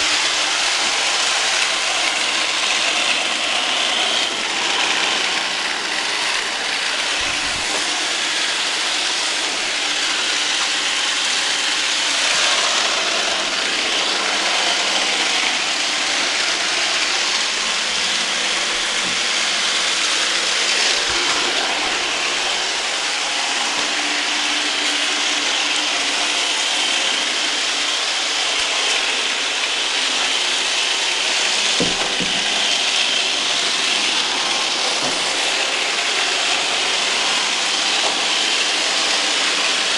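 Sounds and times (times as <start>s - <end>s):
robot vacuum cleaner whirring: 0.0s - 39.9s.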